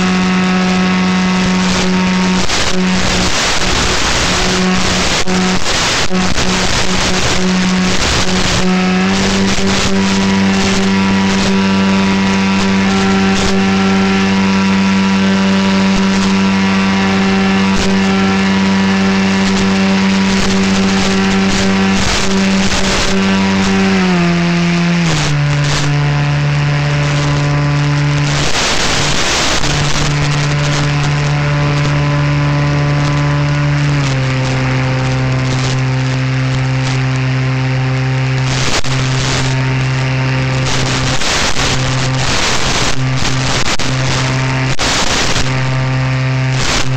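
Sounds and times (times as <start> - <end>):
motor and propeller whining: 0.0 - 46.9.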